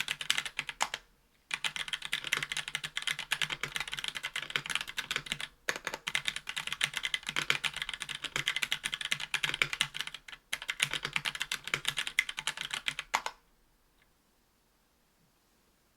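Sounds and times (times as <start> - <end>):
fast keyboard typing clacks: 0.0 - 13.4.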